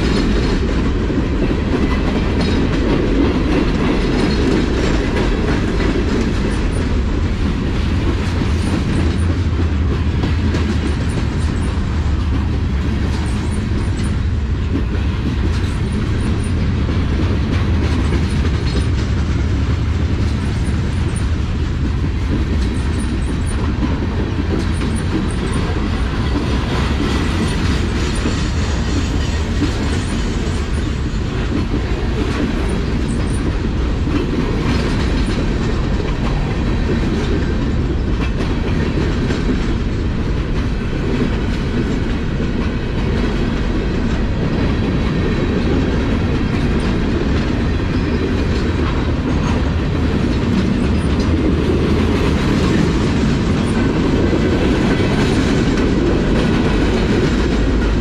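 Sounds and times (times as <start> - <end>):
train wheels rolling on rail: 0.0 - 58.0.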